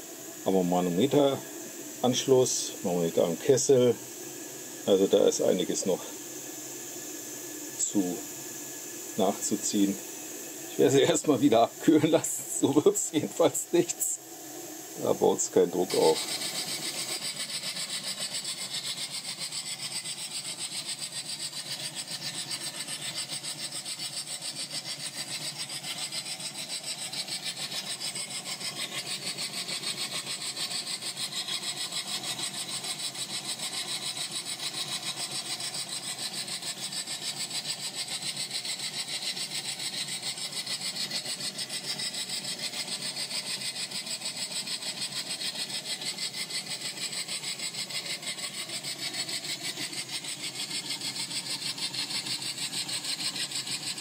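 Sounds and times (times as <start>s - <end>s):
steady steam hiss: 0.0s - 54.0s
steam exhaust beats: 0.0s - 54.0s.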